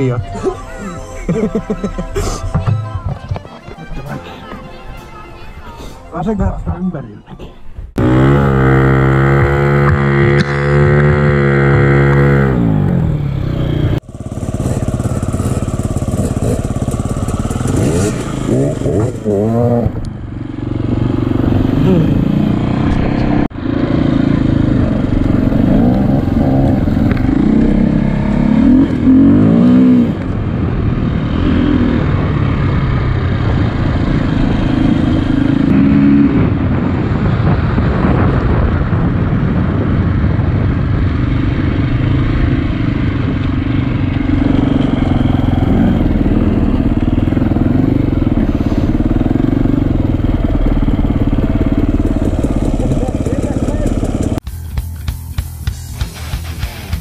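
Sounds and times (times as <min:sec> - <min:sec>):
motorcycle engine revving: 0:07.9 - 0:54.5.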